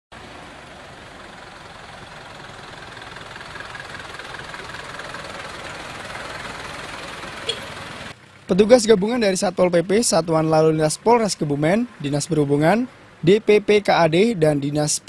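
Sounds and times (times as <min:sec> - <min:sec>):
truck engine running: 0:00.1 - 0:15.0.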